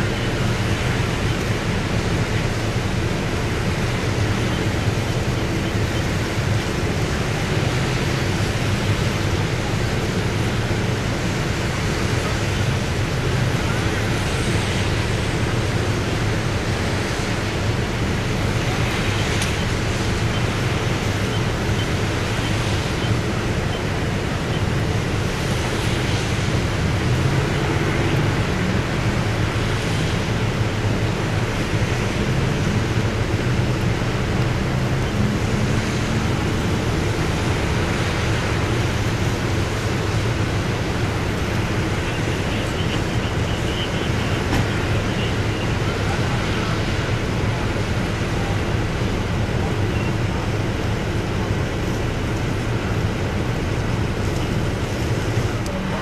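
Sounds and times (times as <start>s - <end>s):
fire engine idling: 0.0s - 27.0s, 28.4s - 35.6s, 36.3s - 56.0s
traffic on wet pavement: 0.0s - 56.0s.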